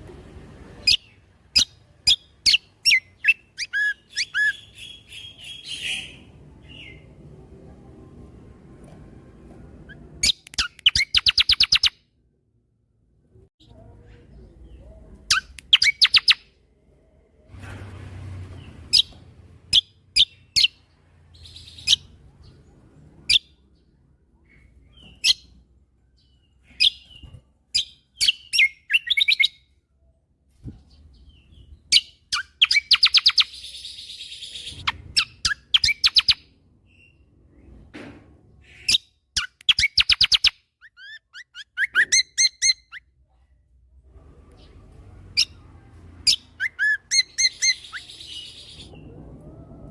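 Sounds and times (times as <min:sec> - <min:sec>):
songbird chirping and trilling: 0:00.8 - 0:07.5, 0:09.8 - 0:12.1, 0:13.6 - 0:17.0, 0:18.4 - 0:37.9, 0:38.5 - 0:43.2, 0:44.2 - 0:49.9.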